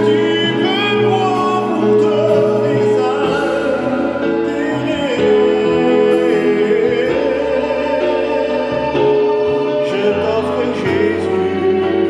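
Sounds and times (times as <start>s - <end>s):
hymn singing: 0.0s - 12.0s
instrumental accompaniment: 0.0s - 12.0s.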